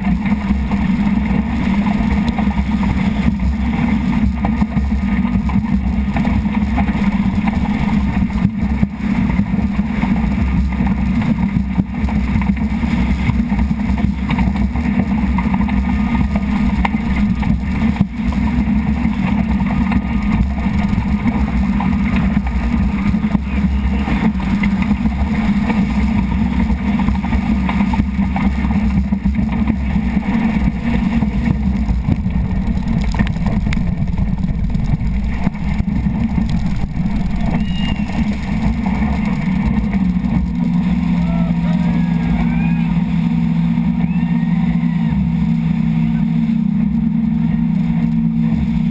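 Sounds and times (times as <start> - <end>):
speedboat engine drone: 0.0 - 48.9
wind and water rushing: 0.0 - 48.9.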